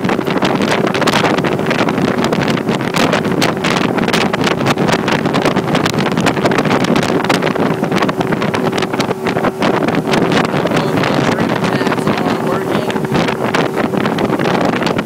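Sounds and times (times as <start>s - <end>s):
outboard motor drone: 0.0s - 15.0s
wind buffeting microphone: 0.0s - 15.0s.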